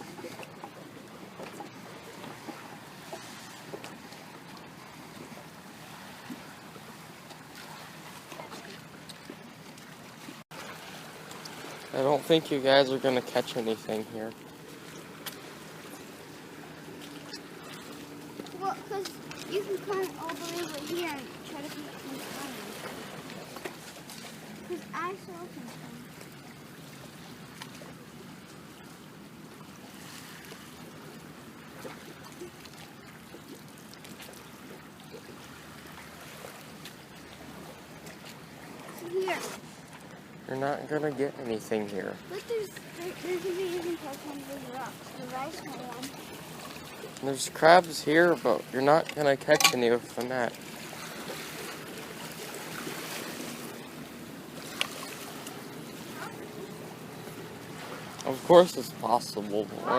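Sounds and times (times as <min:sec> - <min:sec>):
water trickling and lapping: 0:00.0 - 0:59.9.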